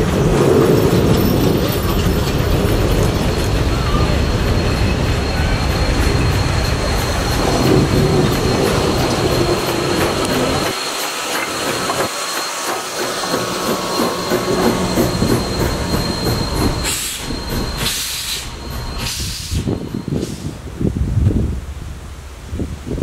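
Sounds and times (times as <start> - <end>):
train wheels clicking over rail joints: 0.0 - 20.5
steam hissing: 0.0 - 20.9
thin high tone: 1.0 - 20.2.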